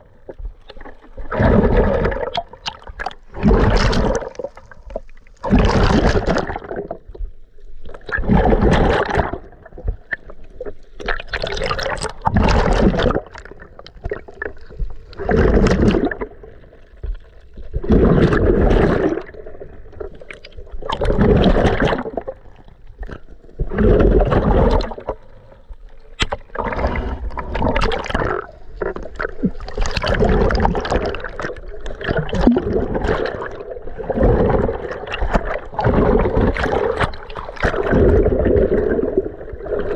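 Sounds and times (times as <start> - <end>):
water sloshing and rushing underwater: 0.0 - 39.9.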